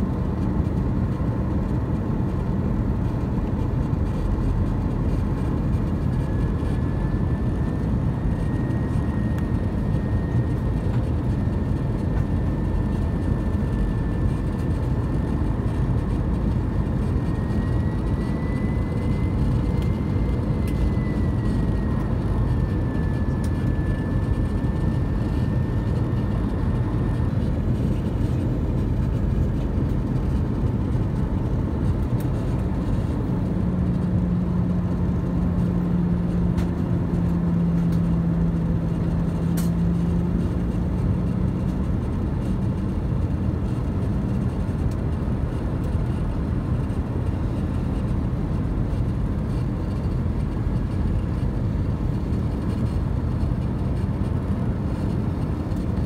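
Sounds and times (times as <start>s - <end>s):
airplane cabin roar: 0.0s - 56.0s
high engine whine: 0.0s - 56.0s.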